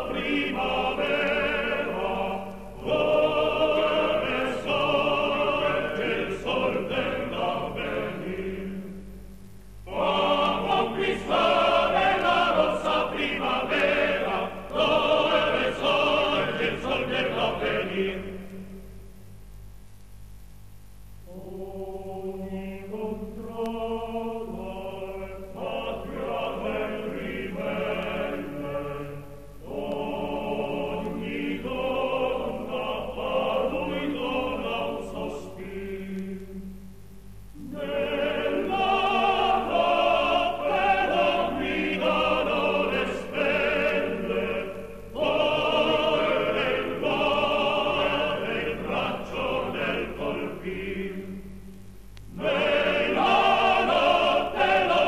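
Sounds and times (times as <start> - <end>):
choir singing operatically: 0.0 - 9.1, 9.8 - 18.8, 21.3 - 36.7, 37.6 - 51.6, 52.3 - 55.0.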